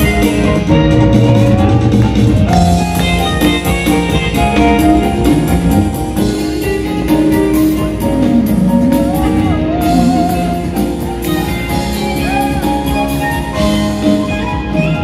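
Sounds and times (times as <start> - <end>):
electronic keyboard chords: 0.0 - 15.0.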